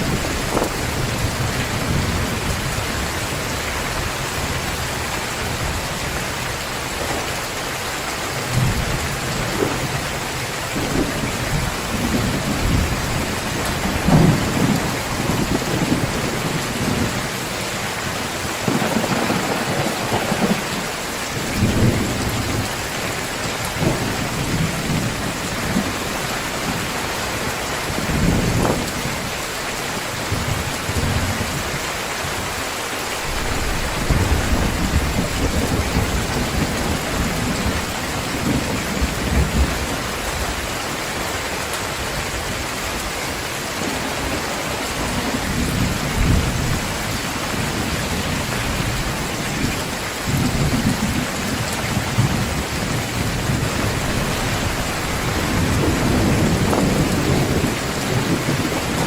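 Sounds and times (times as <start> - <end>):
thunder rumbling: 0.0 - 7.3, 8.3 - 29.5, 33.2 - 40.6, 43.8 - 59.0
heavy rain pouring: 0.0 - 59.0.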